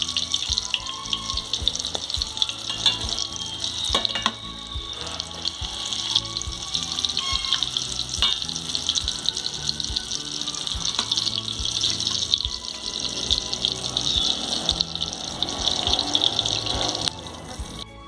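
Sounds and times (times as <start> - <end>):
food sizzling in oil: 0.0 - 17.8.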